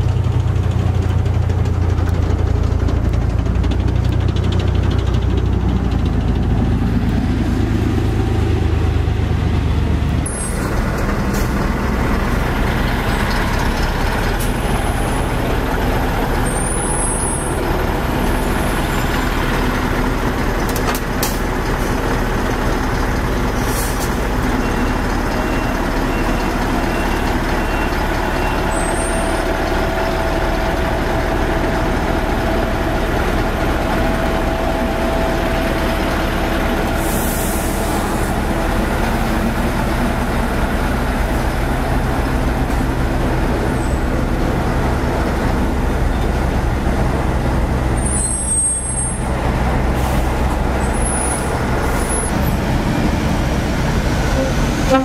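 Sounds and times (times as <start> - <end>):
heavy diesel engines rumbling: 0.0 - 55.0.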